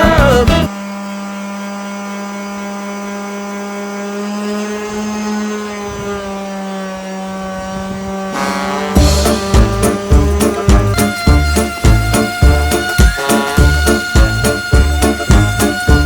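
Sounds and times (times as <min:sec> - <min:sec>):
electric power tool running: 0:00.0 - 0:16.0.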